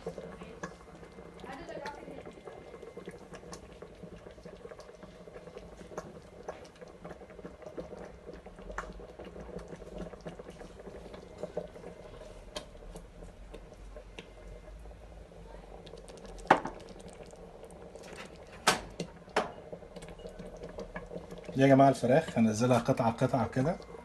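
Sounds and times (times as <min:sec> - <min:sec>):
sauce bubbling with pops: 0:00.0 - 0:24.0.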